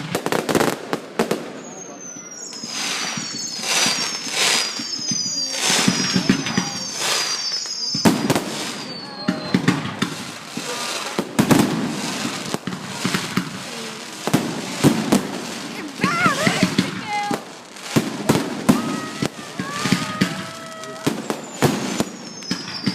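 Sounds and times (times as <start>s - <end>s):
fireworks crackling: 0.0s - 22.9s
fireworks sharp bangs: 0.0s - 22.9s
whistling fireworks: 0.0s - 22.9s.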